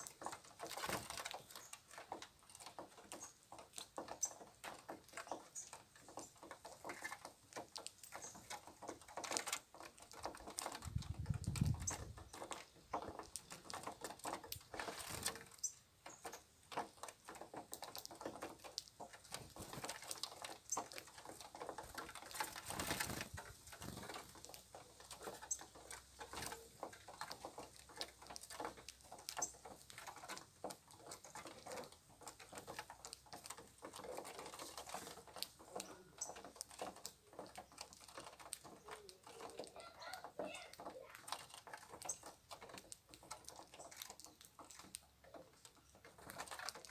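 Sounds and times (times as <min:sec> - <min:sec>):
birds pecking and tapping: 0:00.0 - 0:46.9.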